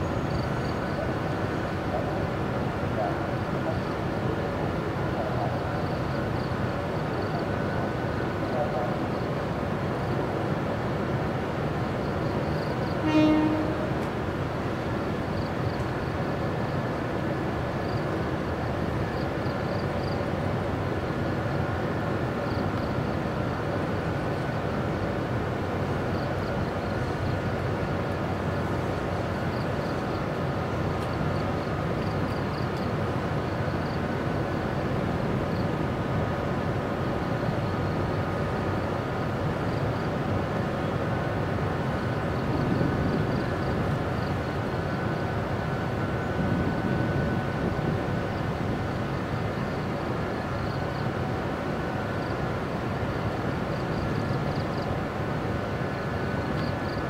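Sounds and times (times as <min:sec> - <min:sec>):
electric locomotive rumbling: 0:00.0 - 0:57.0.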